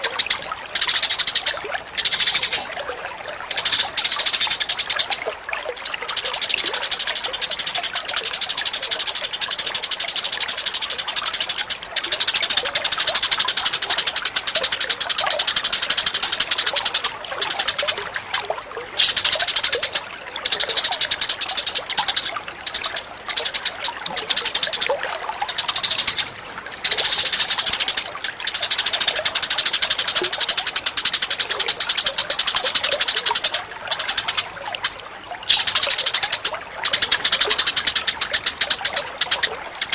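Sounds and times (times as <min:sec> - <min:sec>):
bird chattering: 0:00.0 - 0:02.7, 0:03.4 - 0:18.0, 0:19.0 - 0:34.5, 0:35.5 - 0:39.9
running water: 0:00.0 - 0:39.9.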